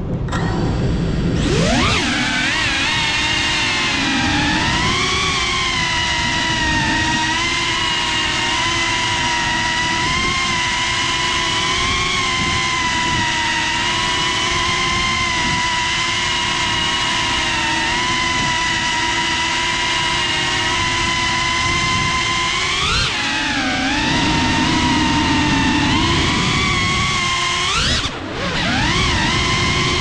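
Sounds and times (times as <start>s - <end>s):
drone motors whining: 0.0s - 30.0s
propeller air rush: 0.0s - 30.0s.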